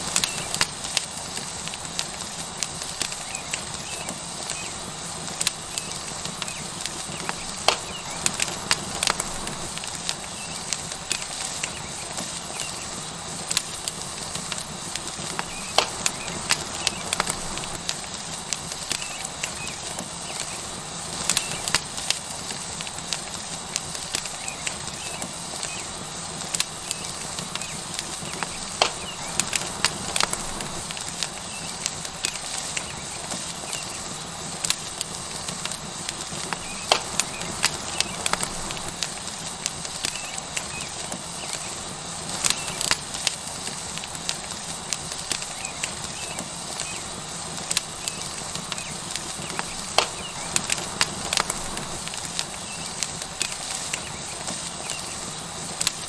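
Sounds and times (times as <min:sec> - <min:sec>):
steak sizzling on hot rock: 0:00.0 - 0:56.0
wood fire crackling and popping: 0:00.0 - 0:56.0.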